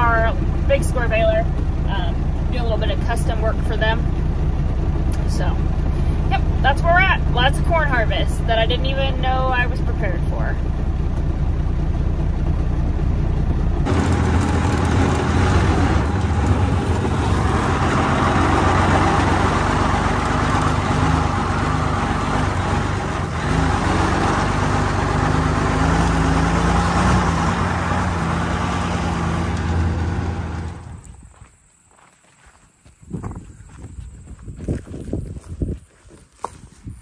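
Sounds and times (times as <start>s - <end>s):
vehicle engine running: 0.0s - 31.4s
road noise: 0.0s - 31.8s.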